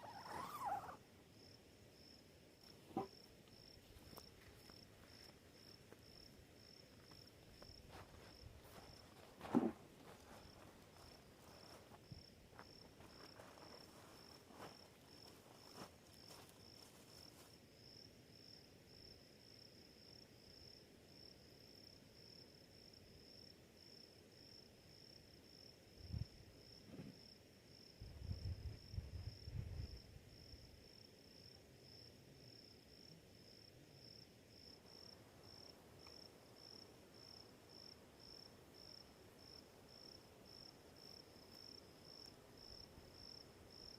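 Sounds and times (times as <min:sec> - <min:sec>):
cricket chirping: 0:00.0 - 0:43.9.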